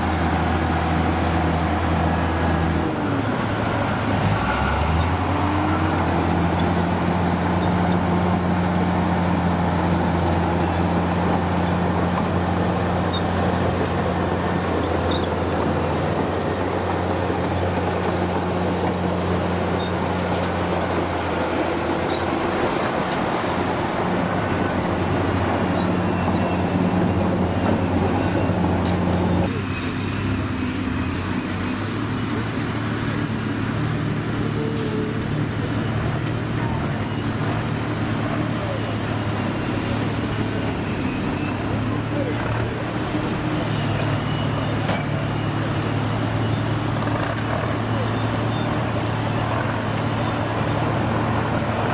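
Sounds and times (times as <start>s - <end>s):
heavy vehicle engine running: 0.0s - 51.9s.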